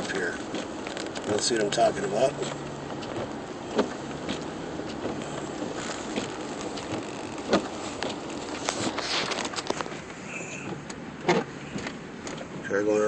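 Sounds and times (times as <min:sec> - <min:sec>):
road and engine noise in car: 0:00.0 - 0:13.0.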